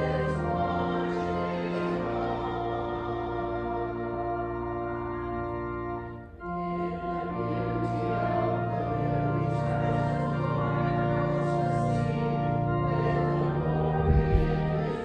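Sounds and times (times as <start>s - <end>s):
organ playing chords: 0.0s - 15.0s.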